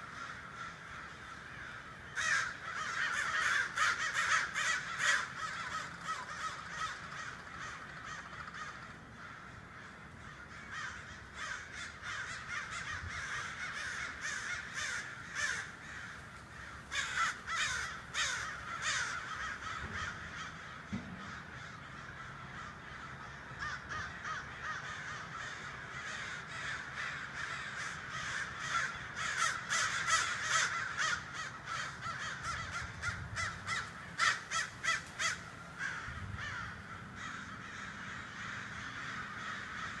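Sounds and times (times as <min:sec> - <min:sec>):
flock of birds cawing: 0:00.0 - 0:40.0.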